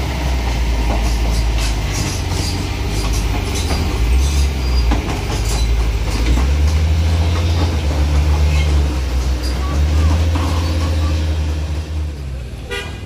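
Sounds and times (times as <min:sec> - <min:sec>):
heavy diesel engines under load: 0:00.0 - 0:13.0.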